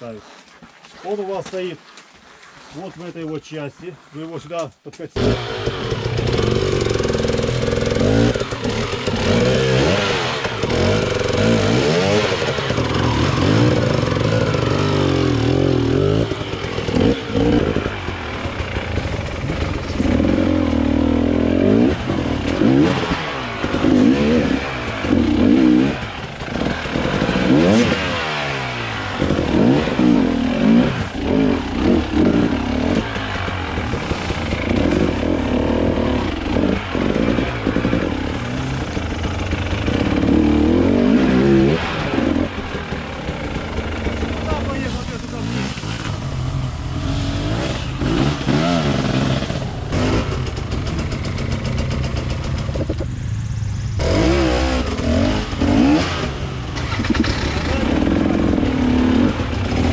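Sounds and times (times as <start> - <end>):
dirt bike engine revving: 5.2 - 59.9.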